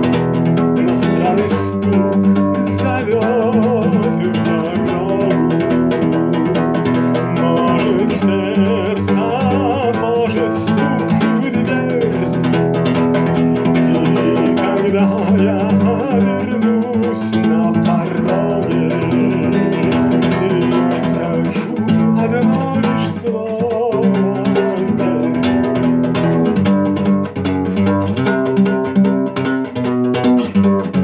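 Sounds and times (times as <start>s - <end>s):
guitar chords: 0.0s - 31.0s.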